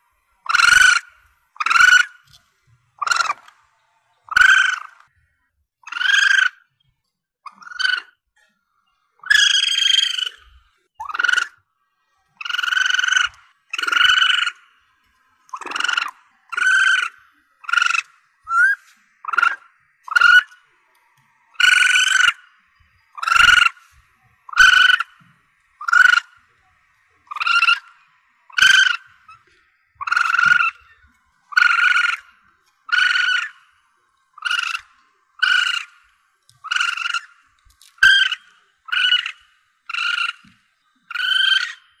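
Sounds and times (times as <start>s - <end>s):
civet high-pitched cries: 0.4s - 2.4s, 3.0s - 3.5s, 4.2s - 5.2s, 5.8s - 6.8s, 7.5s - 8.2s, 9.1s - 42.0s.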